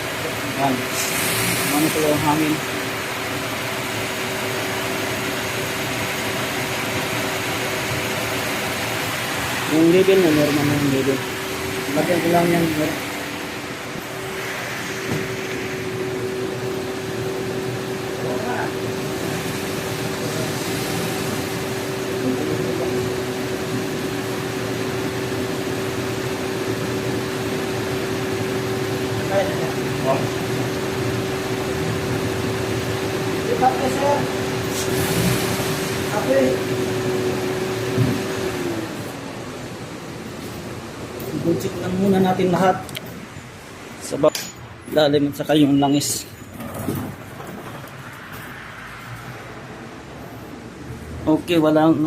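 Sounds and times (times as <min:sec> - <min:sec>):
car engine idling hum: 0:00.0 - 0:44.0.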